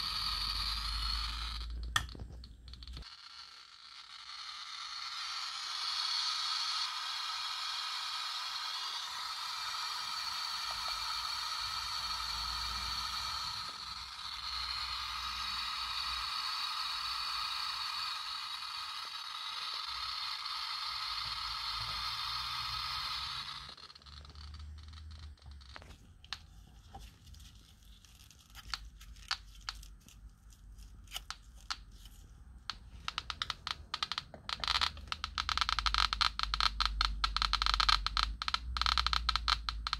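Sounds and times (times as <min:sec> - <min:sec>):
geiger counter clicking: 0:00.0 - 0:26.4, 0:32.7 - 0:39.9.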